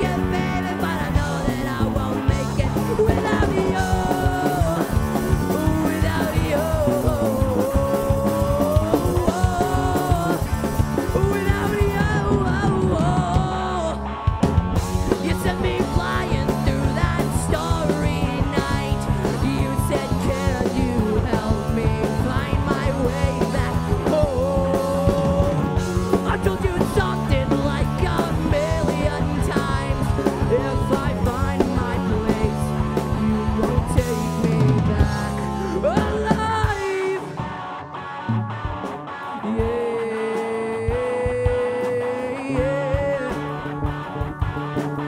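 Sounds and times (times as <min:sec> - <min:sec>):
drum kit: 0:00.0 - 0:45.0
electric guitar lead: 0:00.0 - 0:45.0.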